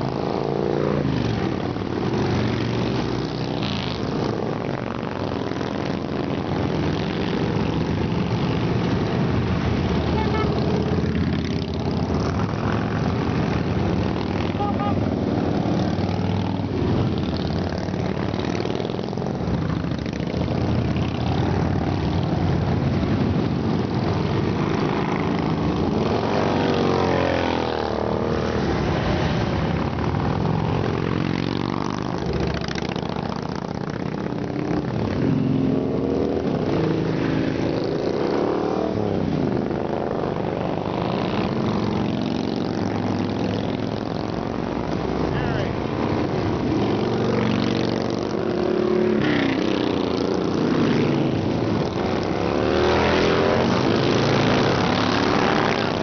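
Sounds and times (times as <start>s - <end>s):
motorcycles riding past: 0.0s - 56.0s.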